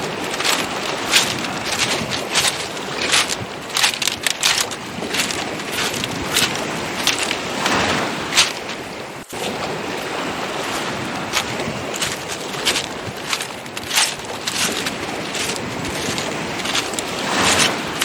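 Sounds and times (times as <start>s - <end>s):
footsteps crunching on pebbles: 0.0s - 18.0s
waves washing: 0.0s - 18.0s
wind noise on microphone: 0.0s - 18.0s.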